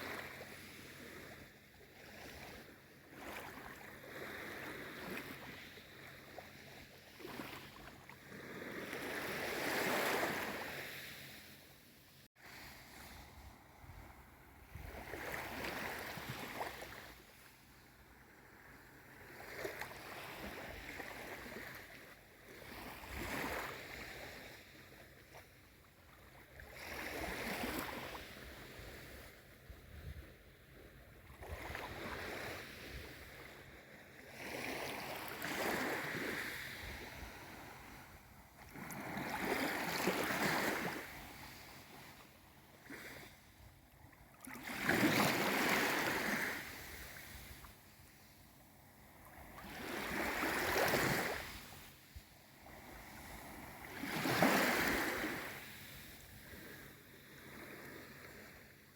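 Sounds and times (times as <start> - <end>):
small sea waves washing in: 0.0 - 58.9.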